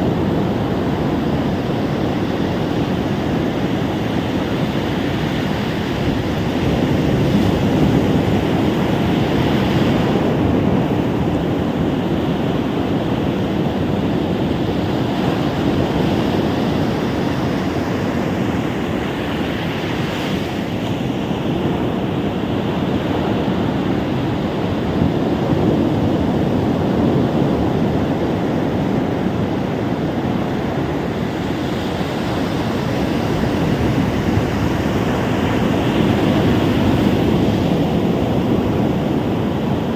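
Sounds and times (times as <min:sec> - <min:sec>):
waves washing onto beach: 0:00.0 - 0:39.9
wind rumble on microphone: 0:00.0 - 0:39.9.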